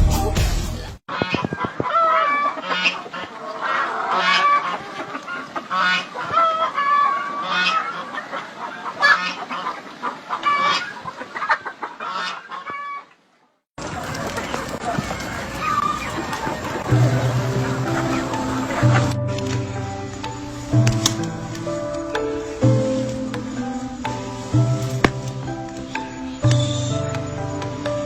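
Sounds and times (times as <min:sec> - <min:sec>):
poultry squawking and honking: 0:01.1 - 0:13.2, 0:14.2 - 0:26.4.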